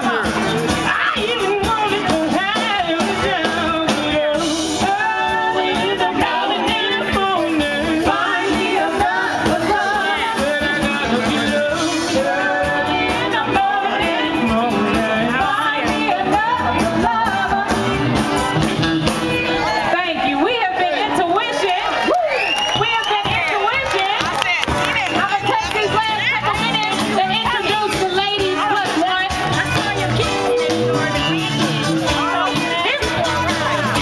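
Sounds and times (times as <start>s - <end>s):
music with singer and instruments: 0.0s - 34.0s.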